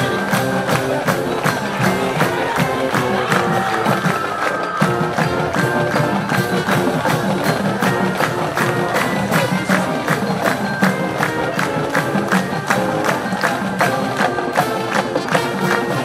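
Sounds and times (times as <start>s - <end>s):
drumline beat: 0.0s - 16.0s
wind and brass notes: 0.0s - 16.0s.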